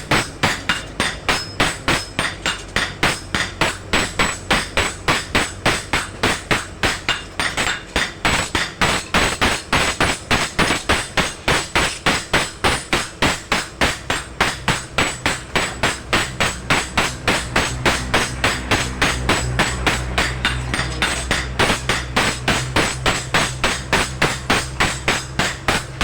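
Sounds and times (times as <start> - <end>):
hammer striking steel on anvil: 0.0 - 26.0.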